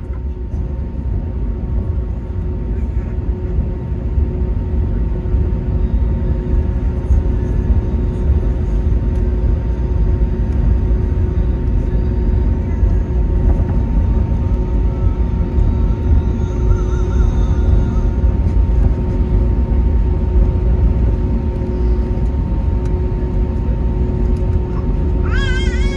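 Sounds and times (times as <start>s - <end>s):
jet engines running: 0.0s - 25.9s.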